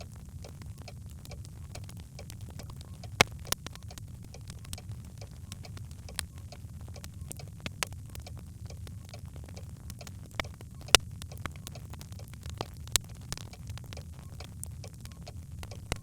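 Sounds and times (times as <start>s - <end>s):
logs crackling in fireplace: 0.0s - 16.0s.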